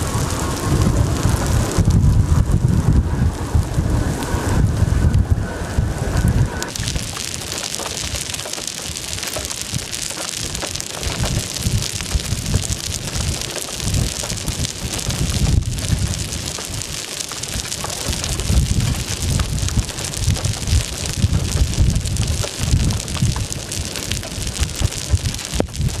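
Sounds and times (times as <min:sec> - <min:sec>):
rain falling: 0:00.0 - 0:26.0
wind gusts on microphone: 0:00.0 - 0:26.0.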